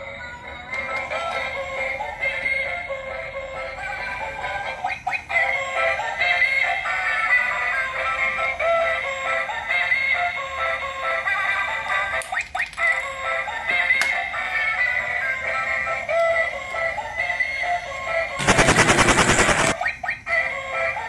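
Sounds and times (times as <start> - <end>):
toy electronic tune with synthesized singing: 0.1 - 18.4, 19.8 - 21.0.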